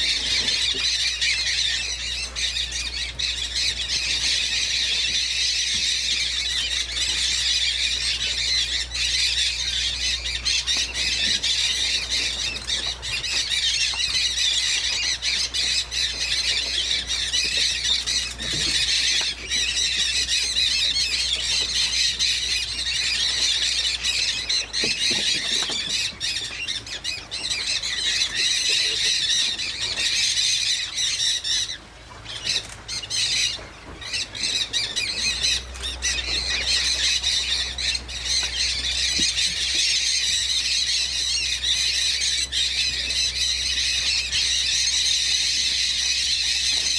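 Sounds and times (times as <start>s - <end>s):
low steady hum: 0.0s - 46.9s
parrots squawking: 0.0s - 46.9s.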